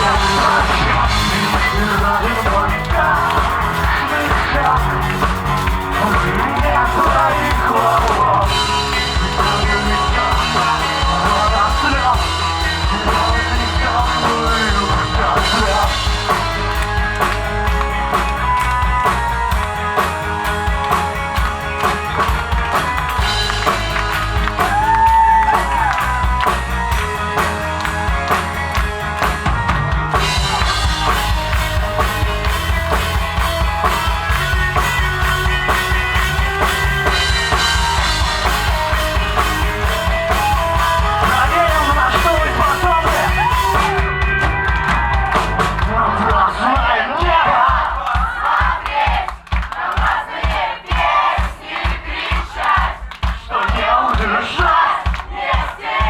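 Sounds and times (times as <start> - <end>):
rock band playing: 0.0 - 47.9
drum kit steady beat: 0.0 - 56.0.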